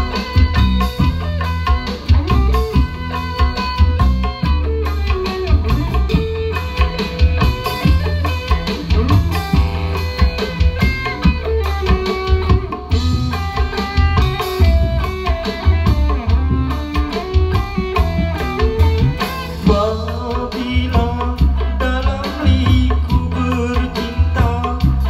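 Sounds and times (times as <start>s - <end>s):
electric guitar lead melody: 0.0s - 25.0s
hand drum: 0.0s - 25.0s
steady low bass: 0.0s - 25.0s.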